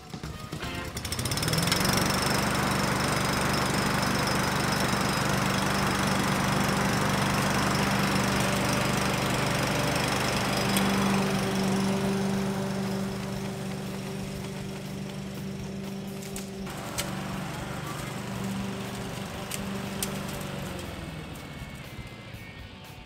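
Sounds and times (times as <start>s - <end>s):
lawn mower engine: 0.0s - 23.0s.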